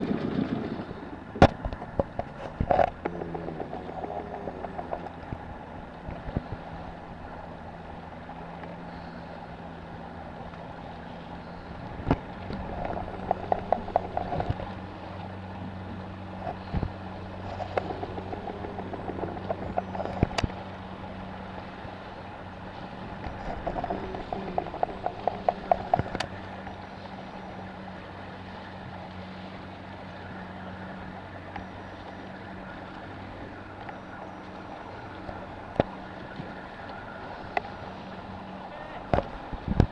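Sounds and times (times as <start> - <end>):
boat engine humming: 0.0 - 39.9
water slapping and rattling: 0.0 - 39.9.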